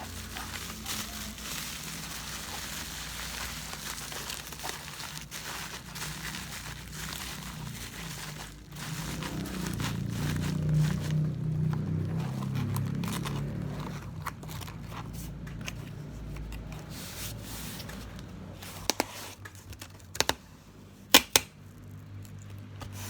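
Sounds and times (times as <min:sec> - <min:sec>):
packaging crinkling and rustling: 0:00.0 - 0:20.4.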